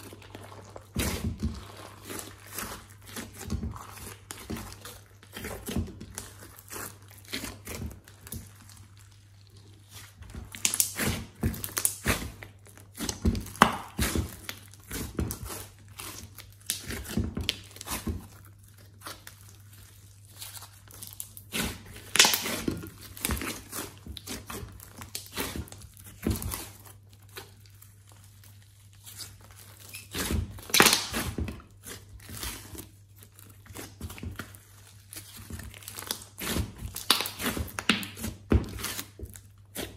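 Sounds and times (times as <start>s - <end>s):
slime squishing and popping: 0.0s - 39.9s.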